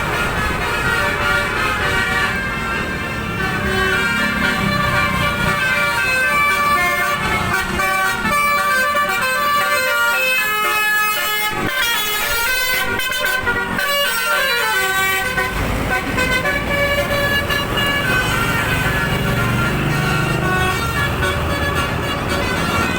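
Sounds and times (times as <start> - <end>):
bus engine: 0.0 - 22.9
multi-tone bus horn tune: 0.0 - 22.9.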